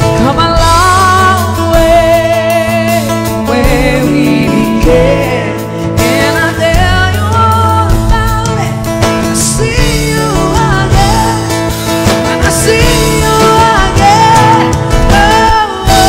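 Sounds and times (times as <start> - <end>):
drums: 0.0 - 16.0
guitar: 0.0 - 16.0
woman singing into microphone: 0.0 - 16.0.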